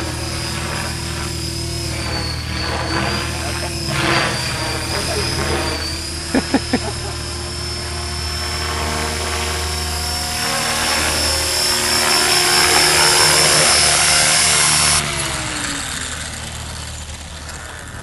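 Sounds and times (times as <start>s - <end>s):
rc helicopter motor whine: 0.0s - 18.0s
rotor hum: 0.0s - 18.0s
rotor winding down: 0.0s - 18.0s.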